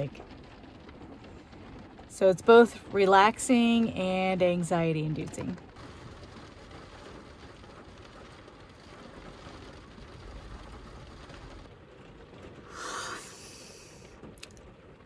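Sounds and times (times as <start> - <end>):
heavy rain drumming on car roof: 0.0 - 15.0
low rumble: 0.0 - 15.0.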